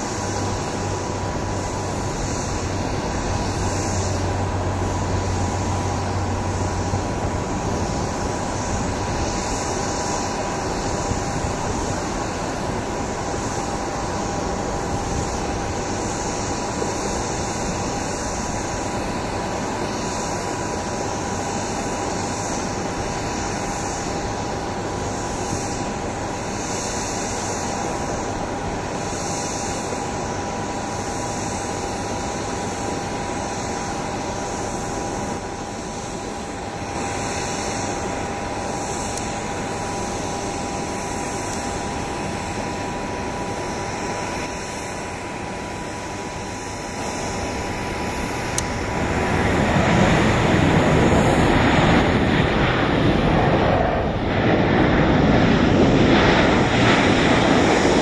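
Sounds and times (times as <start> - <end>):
distant jet engines: 0.0 - 58.0.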